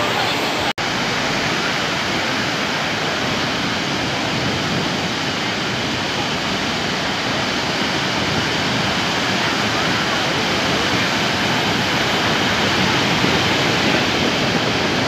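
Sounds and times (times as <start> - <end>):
ocean surf breaking on sand: 0.0 - 15.0.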